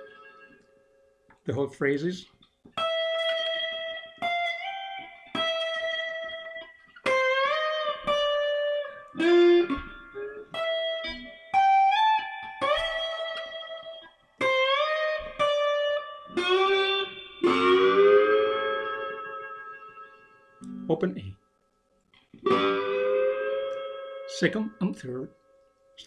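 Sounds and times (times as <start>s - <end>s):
slide guitar melody: 0.0s - 0.7s, 2.8s - 21.4s, 22.4s - 25.5s.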